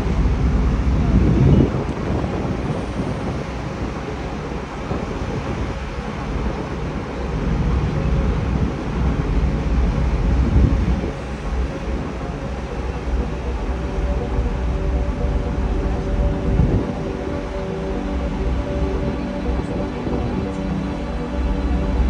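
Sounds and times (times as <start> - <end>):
ship engine rumble: 0.0 - 22.0
wind buffeting microphone: 0.0 - 22.0.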